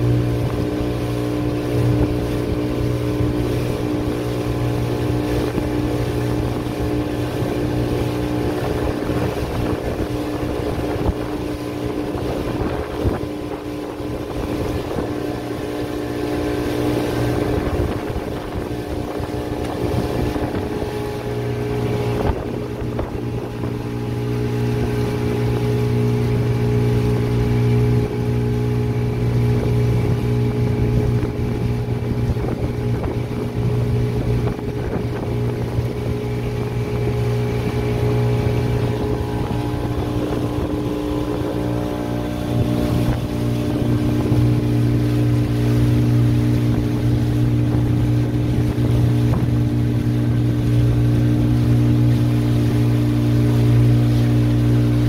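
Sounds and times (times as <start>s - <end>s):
water hissing over hull: 0.0s - 55.0s.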